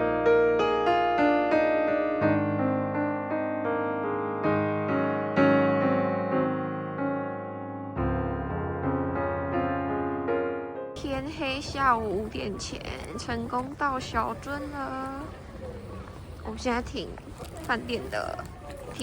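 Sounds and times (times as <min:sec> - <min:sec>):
gentle piano music: 0:00.0 - 0:16.4.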